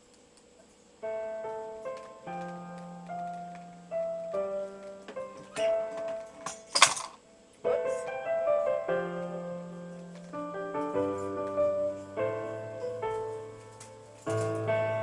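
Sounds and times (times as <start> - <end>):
slow piano music: 1.0 - 15.0.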